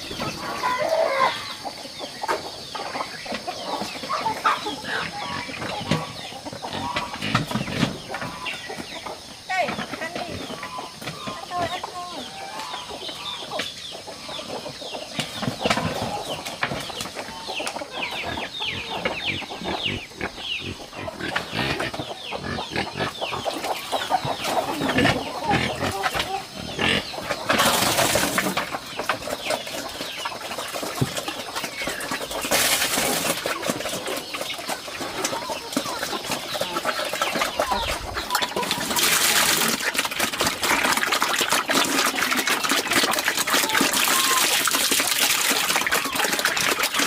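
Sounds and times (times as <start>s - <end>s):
chickens clucking: 0.0s - 47.0s
farmyard animals: 0.0s - 47.0s.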